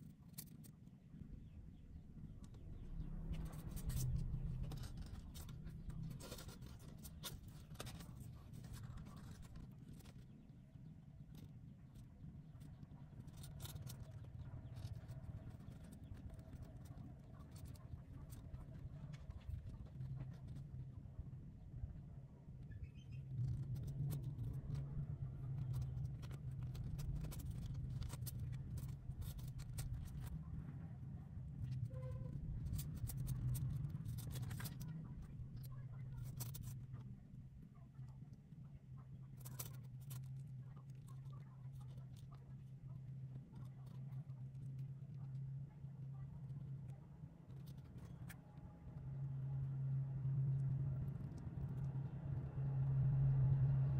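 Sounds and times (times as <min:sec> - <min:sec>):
low steady rumble: 0:00.0 - 0:53.9
steady low hum: 0:00.0 - 0:53.9.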